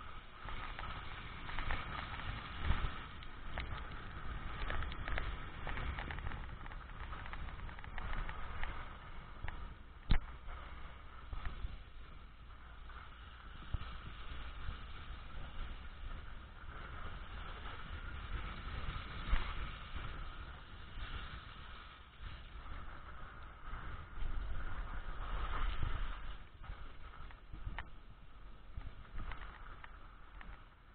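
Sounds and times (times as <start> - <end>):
vehicle driving on snow: 0.0 - 30.9.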